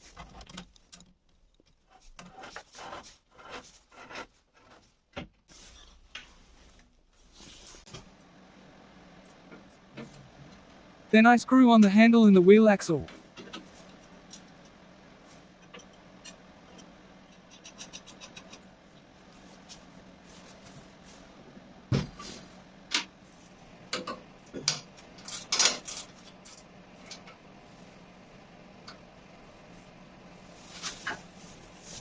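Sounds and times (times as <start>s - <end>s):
faint steady hum: 5.5s - 32.0s.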